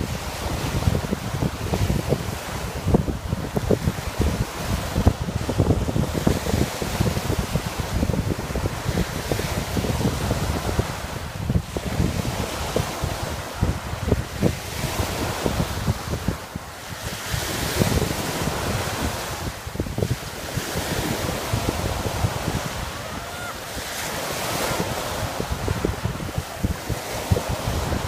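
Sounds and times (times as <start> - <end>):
small waves breaking on sand: 0.0 - 28.0
wind buffeting microphone: 0.0 - 28.0.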